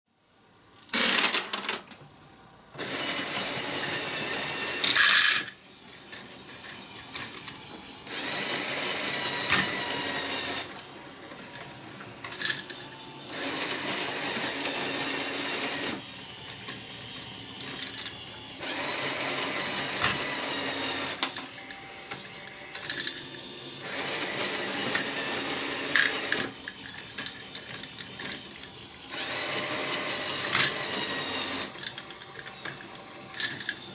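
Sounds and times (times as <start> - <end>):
electric motors whining: 2.7 - 33.9.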